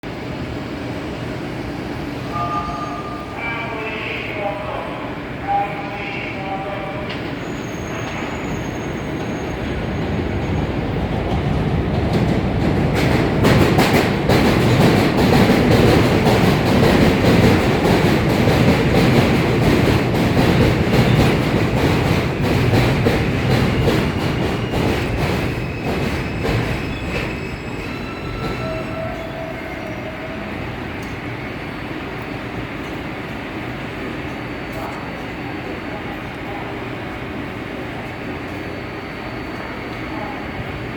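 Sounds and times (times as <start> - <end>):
subway train passing: 0.0 - 40.9.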